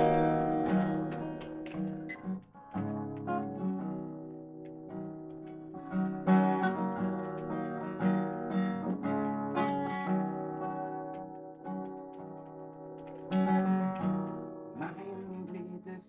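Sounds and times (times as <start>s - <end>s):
acoustic guitar playing chords: 0.0s - 16.0s.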